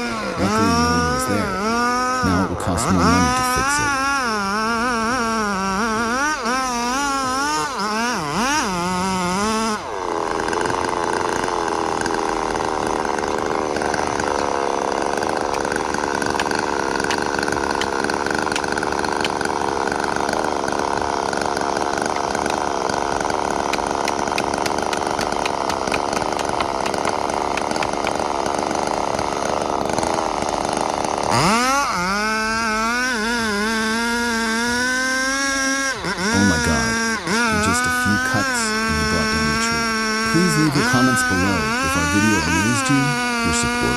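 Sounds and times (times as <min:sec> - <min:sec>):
chainsaw cutting into tree: 0:00.0 - 0:43.9.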